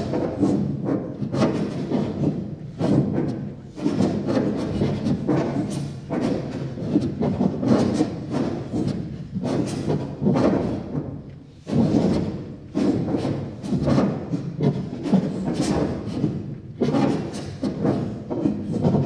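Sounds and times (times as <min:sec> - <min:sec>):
rhythmic thuds: 0:00.0 - 0:19.0.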